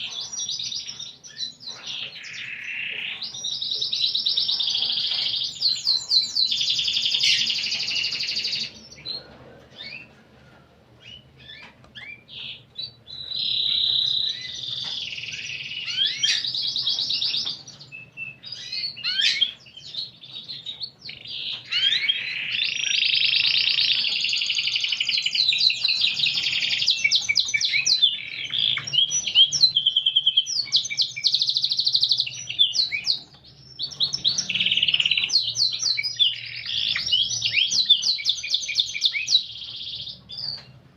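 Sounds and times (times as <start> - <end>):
canary singing trilled rolls: 0.0 - 40.9.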